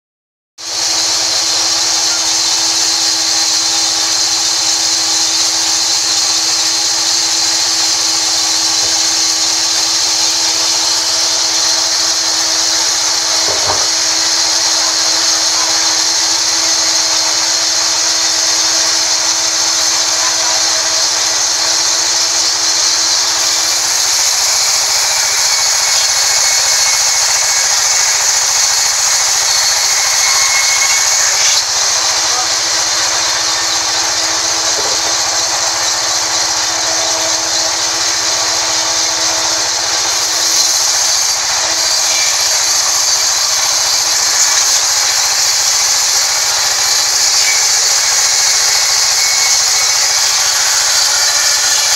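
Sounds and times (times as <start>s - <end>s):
band saw running: 0.6s - 51.9s.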